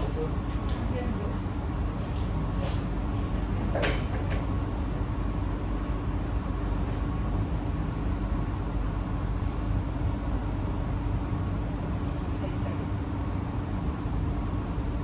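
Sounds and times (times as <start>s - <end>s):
metro train rumble inside carriage: 0.0s - 15.0s.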